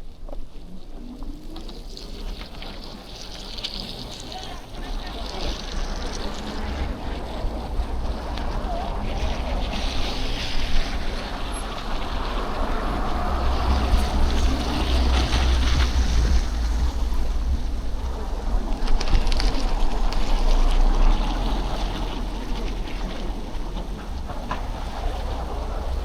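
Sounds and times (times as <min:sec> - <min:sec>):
wind buffeting microphone: 0:01.4 - 0:26.0.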